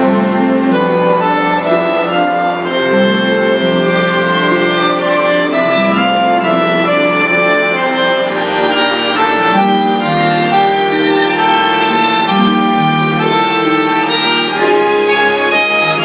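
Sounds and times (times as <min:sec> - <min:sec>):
accordion playing chords and melody: 0:00.0 - 0:16.0.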